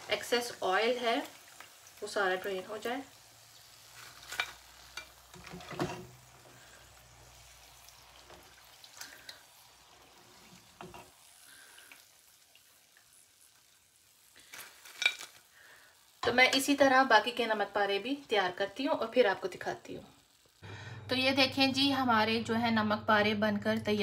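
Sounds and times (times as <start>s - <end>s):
hot oil sizzling: 0.0s - 23.2s.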